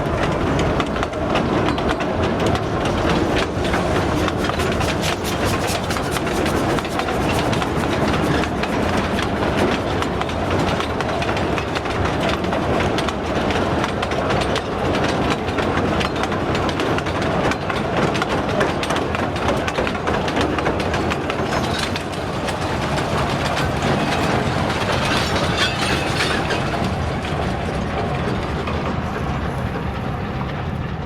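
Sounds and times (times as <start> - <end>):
train rumbling on track: 0.0 - 31.0
wheels clattering on rails: 0.0 - 31.0.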